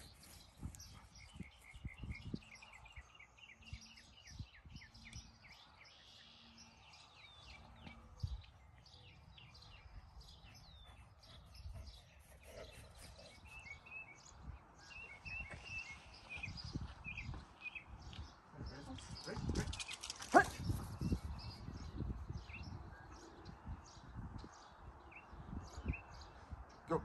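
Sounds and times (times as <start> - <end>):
small birds singing: 0.0 - 27.0.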